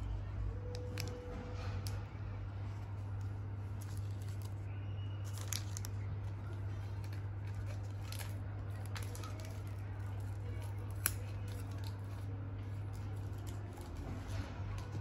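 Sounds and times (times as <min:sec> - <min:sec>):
steady low hum: 0:00.0 - 0:15.0
plastic packaging crinkling: 0:02.7 - 0:15.0.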